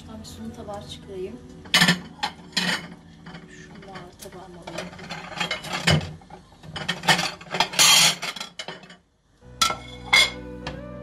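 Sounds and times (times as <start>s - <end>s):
dishes clattering: 1.6s - 10.5s.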